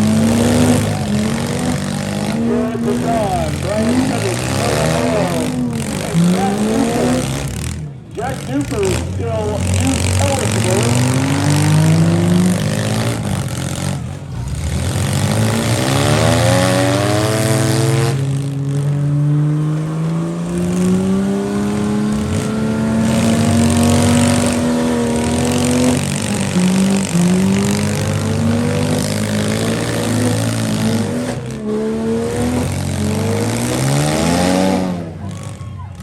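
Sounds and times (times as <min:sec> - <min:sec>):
vehicle engines revving: 0:00.0 - 0:36.0.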